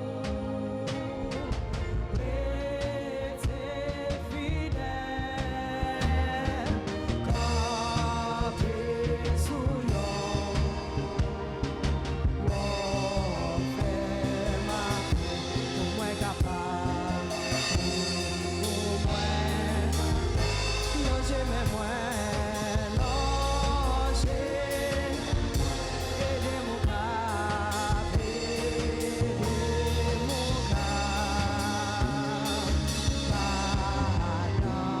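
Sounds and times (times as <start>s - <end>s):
person singing with vibrato: 0.0s - 11.8s, 12.4s - 35.0s
band with drums and bass: 0.0s - 35.0s.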